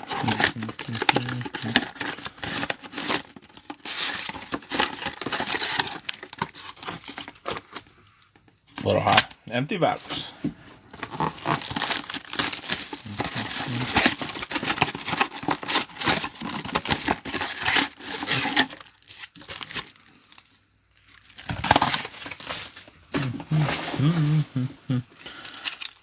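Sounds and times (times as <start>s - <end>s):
foil wrappers crinkling and tearing: 0.0s - 7.9s, 10.9s - 24.2s, 25.2s - 26.0s.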